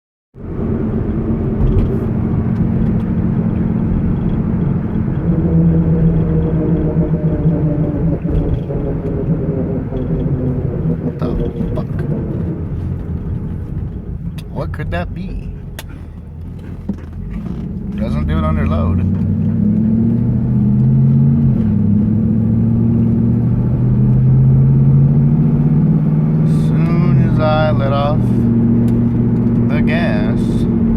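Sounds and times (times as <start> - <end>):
car engine idling rumble: 0.4 - 30.9.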